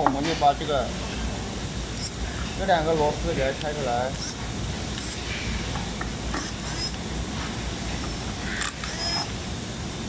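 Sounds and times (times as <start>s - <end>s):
background hiss and hum: 0.0s - 10.0s.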